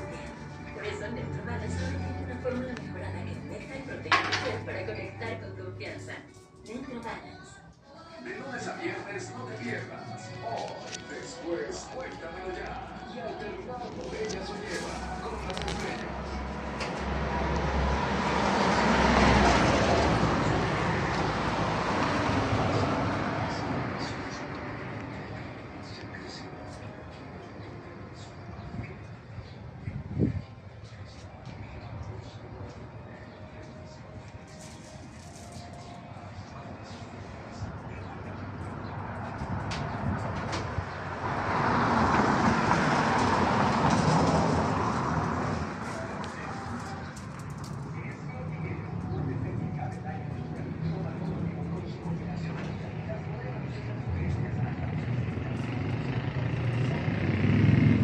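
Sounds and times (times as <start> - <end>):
vehicle passing by: 0.0 - 6.6, 8.7 - 58.0.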